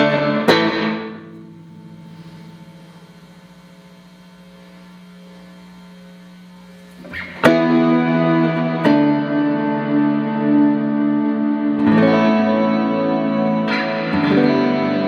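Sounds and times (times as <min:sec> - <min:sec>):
clean electric guitar chords: 0:00.0 - 0:04.5, 0:07.0 - 0:15.0.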